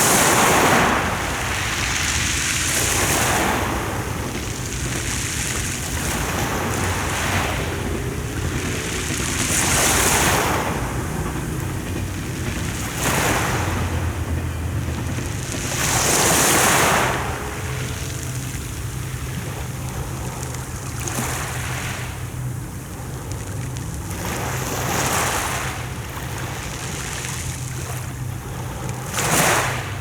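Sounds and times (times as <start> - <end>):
sea waves breaking on shore: 0.0 - 30.0
wind rumbling on microphone: 0.0 - 30.0.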